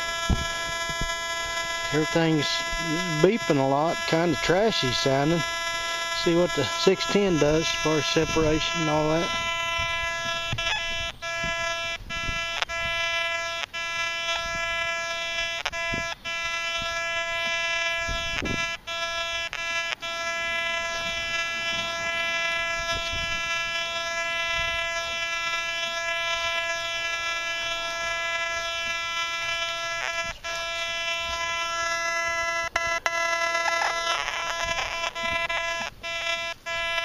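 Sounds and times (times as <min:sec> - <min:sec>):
metal detector buzzing tone: 0:00.0 - 0:37.0.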